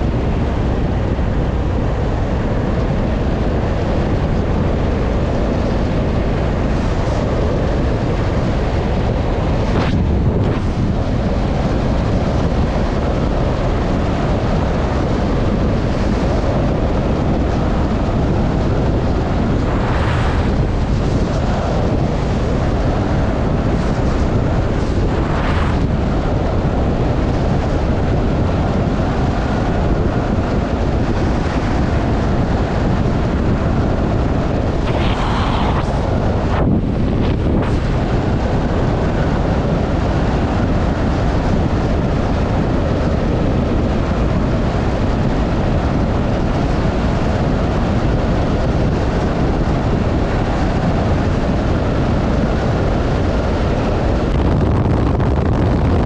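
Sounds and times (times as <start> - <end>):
tyres at cruising speed: 0.0 - 56.0
wind rush on microphone: 0.0 - 56.0.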